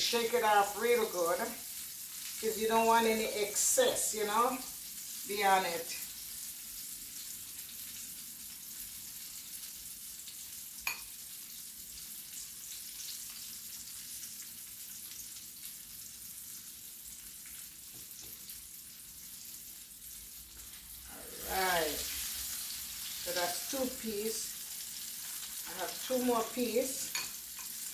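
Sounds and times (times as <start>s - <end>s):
chicken frying in hot oil: 0.0s - 27.9s.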